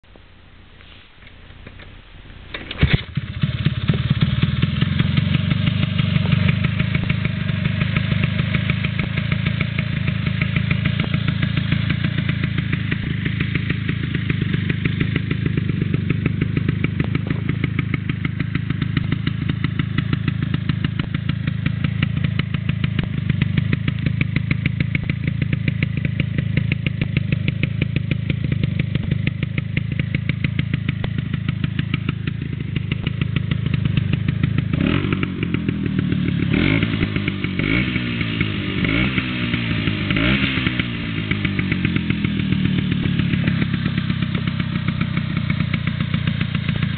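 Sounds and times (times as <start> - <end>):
scooter engine idling: 0.0 - 46.9.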